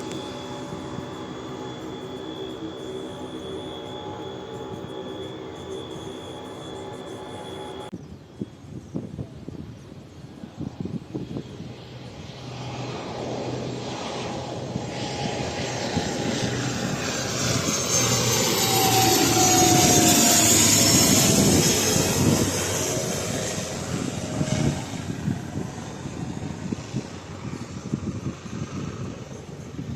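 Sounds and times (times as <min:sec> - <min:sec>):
airliner passing overhead: 0:00.0 - 0:29.9.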